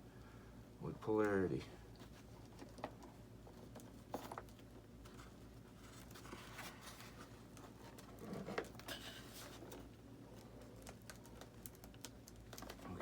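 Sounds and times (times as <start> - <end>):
small clicks and rustles of handling: 1.2 - 13.0.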